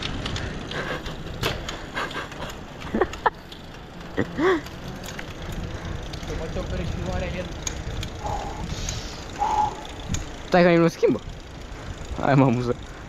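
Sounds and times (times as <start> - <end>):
bike tyre noise: 0.0 - 13.0.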